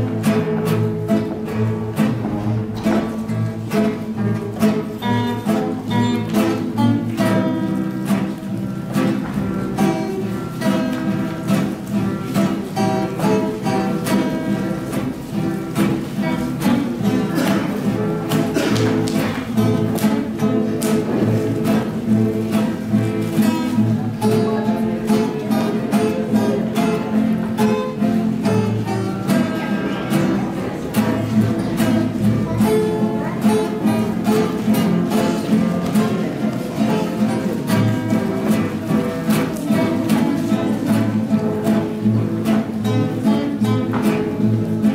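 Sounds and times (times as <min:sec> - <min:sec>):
acoustic guitars strumming and picking: 0:00.0 - 0:44.9.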